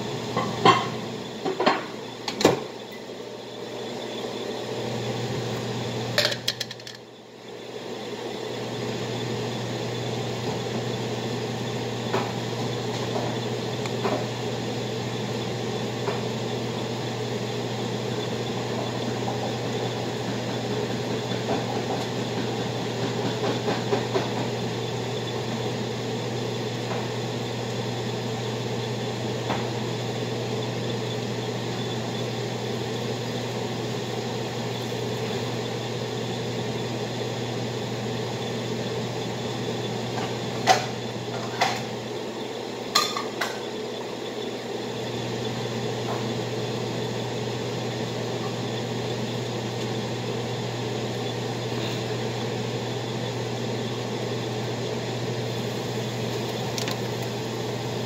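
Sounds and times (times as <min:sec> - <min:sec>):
low kitchen hum: 0:00.0 - 0:58.0.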